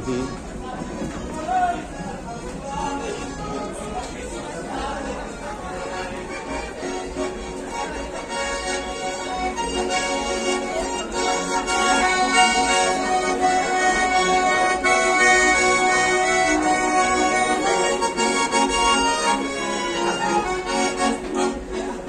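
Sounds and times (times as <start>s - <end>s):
accordion music: 0.0s - 22.0s.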